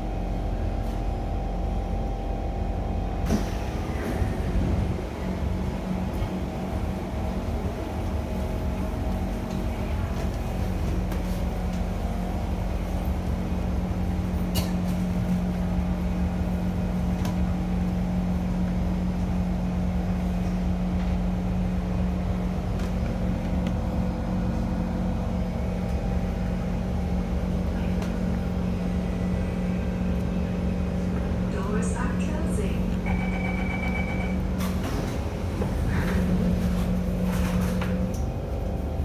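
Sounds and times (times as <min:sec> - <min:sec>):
electric train hum and rumble: 0:00.0 - 0:39.0.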